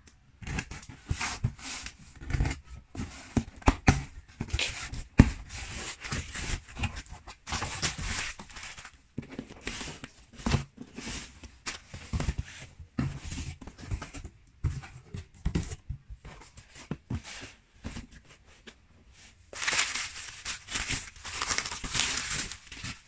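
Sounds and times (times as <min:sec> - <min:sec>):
cardboard scraping and rustling: 0:00.5 - 0:23.0.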